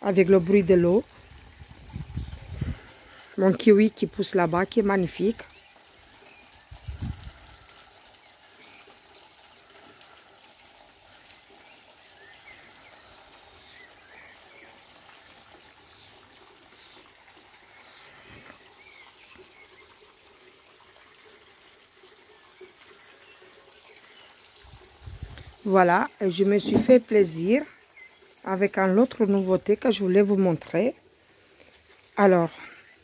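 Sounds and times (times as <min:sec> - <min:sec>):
water trickling: 0:00.0 - 0:33.0.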